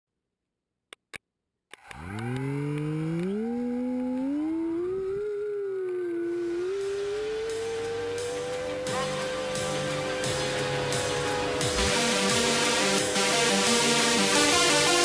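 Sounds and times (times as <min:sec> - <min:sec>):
electric motor whine spinning up: 0:01.8 - 0:15.0.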